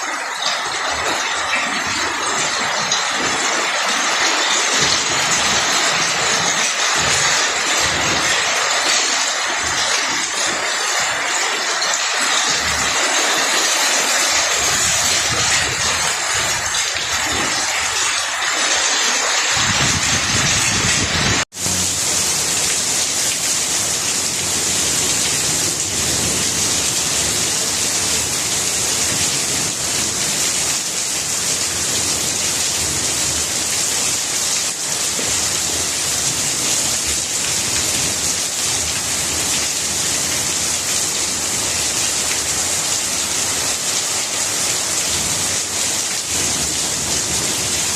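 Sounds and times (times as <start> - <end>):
heavy rain on leaves: 0.0 - 47.9.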